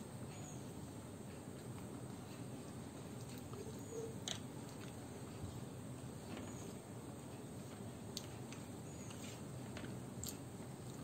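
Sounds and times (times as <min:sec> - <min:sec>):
soft chewing: 0:01.3 - 0:11.0.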